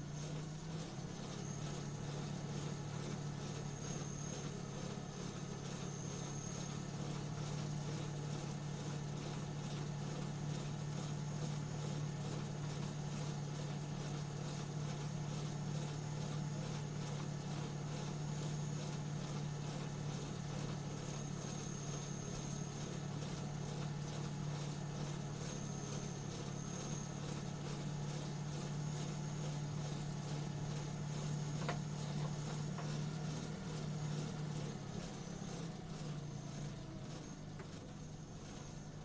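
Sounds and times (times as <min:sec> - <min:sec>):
faint high whine: 0:00.0 - 0:39.0
pottery wheel humming: 0:00.0 - 0:39.0.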